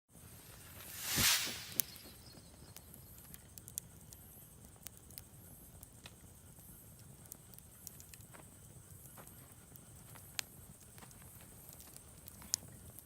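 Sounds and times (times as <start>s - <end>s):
low steady burning: 0.1s - 13.0s
campfire wood crackling: 0.2s - 13.0s
fire pops and snaps: 0.5s - 13.0s.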